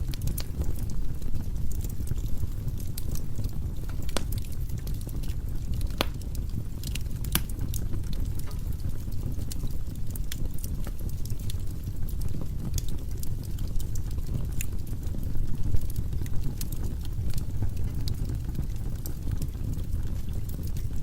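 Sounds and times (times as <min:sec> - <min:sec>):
firewood burning in fireplace: 0:00.0 - 0:21.0.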